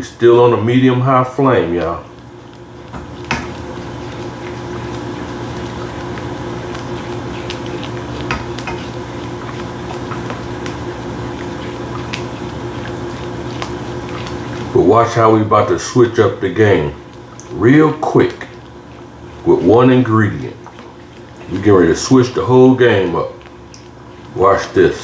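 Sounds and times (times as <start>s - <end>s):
steady hum: 0.0s - 25.0s
utensil stirring soup in a pot: 0.3s - 25.0s.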